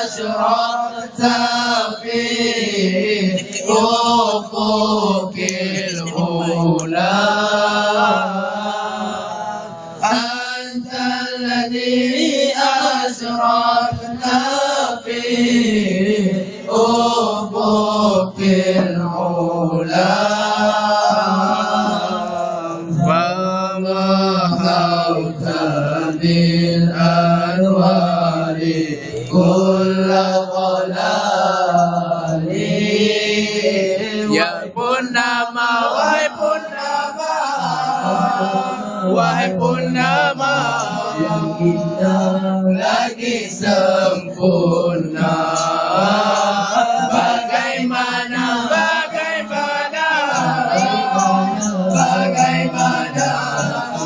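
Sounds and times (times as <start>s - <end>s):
men singing through microphones: 0.0s - 54.0s.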